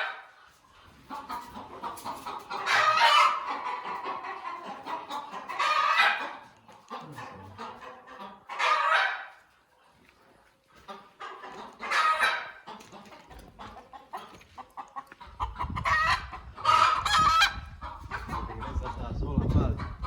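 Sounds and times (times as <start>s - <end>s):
chickens clucking and squawking: 0.0s - 20.0s.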